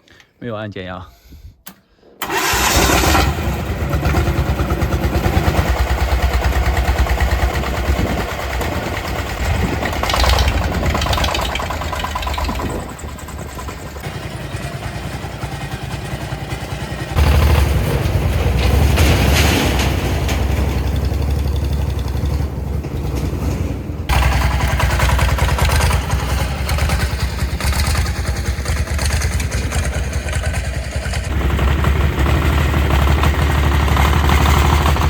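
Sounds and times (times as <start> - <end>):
tractor diesel engine chugging: 2.2 - 35.0.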